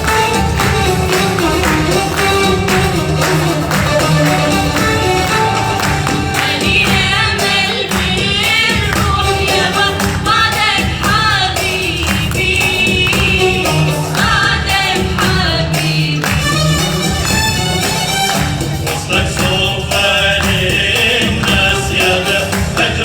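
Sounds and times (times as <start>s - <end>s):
hand percussion beat: 0.0s - 23.0s
instrumental accompaniment: 0.0s - 23.0s
voices singing in chorus: 0.0s - 23.0s.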